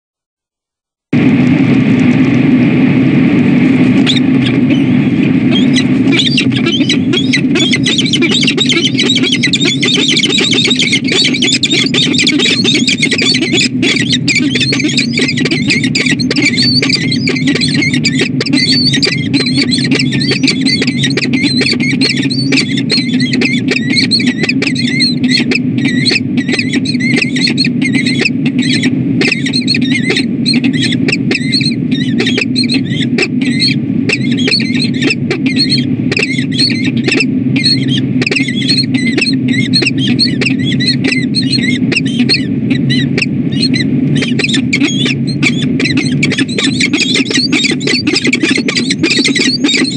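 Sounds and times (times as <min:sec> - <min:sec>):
steady low hum: 0:01.1 - 0:49.9
falcons calling harshly: 0:04.0 - 0:49.9.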